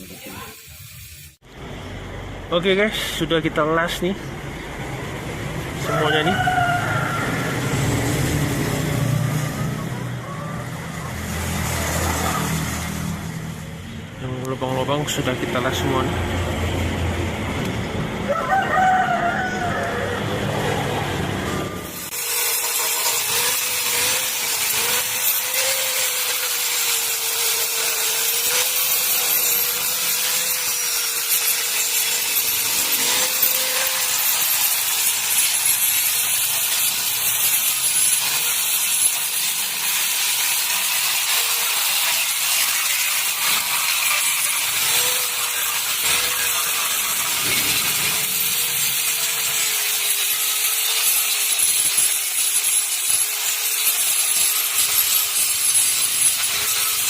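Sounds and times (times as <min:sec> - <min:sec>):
power tool grinding metal: 0:05.6 - 0:17.8, 0:20.4 - 0:57.0.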